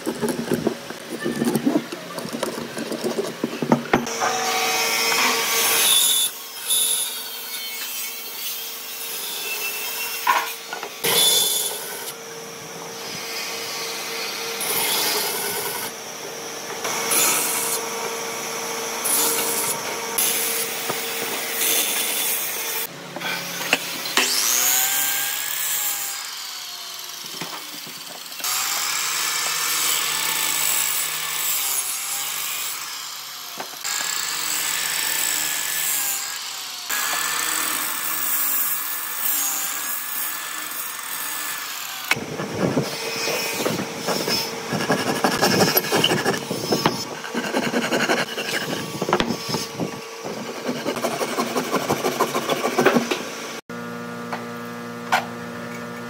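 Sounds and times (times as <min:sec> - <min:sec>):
miter saw cutting wood: 0:00.0 - 0:53.8.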